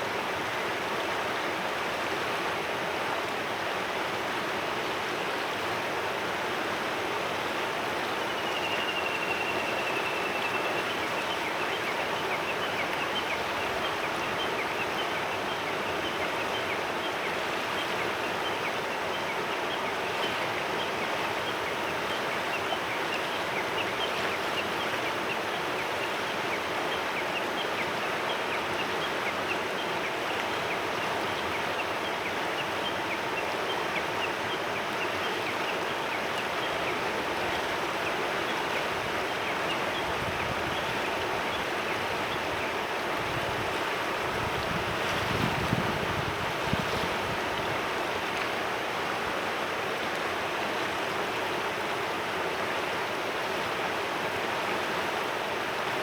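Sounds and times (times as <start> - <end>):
river flowing over stones: 0.0 - 8.4, 9.2 - 56.0.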